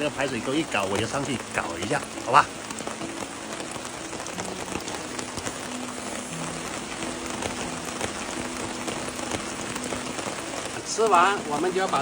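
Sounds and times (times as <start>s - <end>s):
rain drops ticking on surface: 0.0s - 12.0s
rain hiss: 0.0s - 12.0s.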